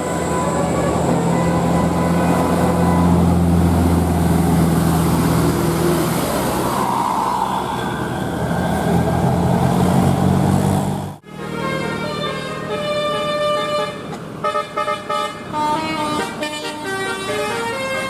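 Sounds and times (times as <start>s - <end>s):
diesel bus engine droning: 0.0s - 18.0s
road and air noise: 0.0s - 18.0s.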